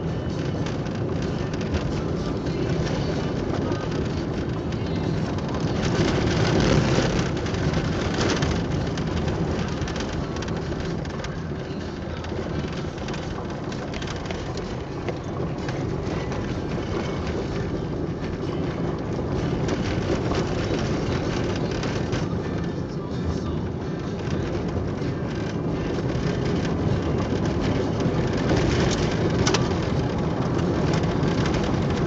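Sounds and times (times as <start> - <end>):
car tyres rumbling on dirt road: 0.0 - 32.0
road surface crackling: 0.0 - 32.0.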